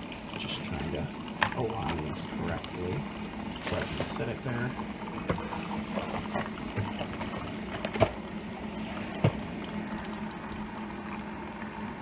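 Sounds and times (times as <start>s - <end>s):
coffee brewer pump humming: 0.0s - 12.0s
coffee streaming into mug: 0.0s - 12.0s.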